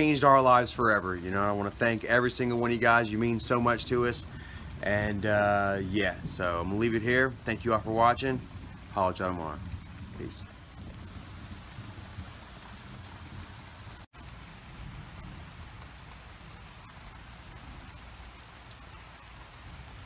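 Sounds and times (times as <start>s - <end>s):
steady rain pouring: 0.0s - 20.0s.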